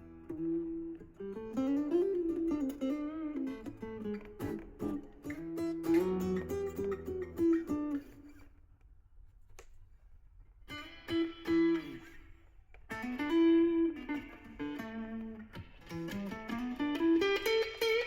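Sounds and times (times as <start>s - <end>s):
guitar picked notes: 0.0s - 8.5s, 10.7s - 18.0s.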